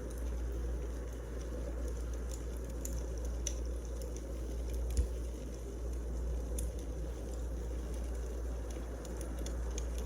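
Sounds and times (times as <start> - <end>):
faint sharp crackles: 0.0 - 10.0
fire rumbling in fireplace: 0.0 - 10.0.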